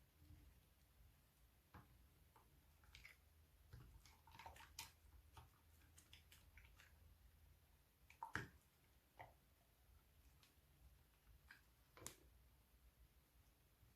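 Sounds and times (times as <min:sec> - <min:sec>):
slime squishing: 0:00.1 - 0:12.6.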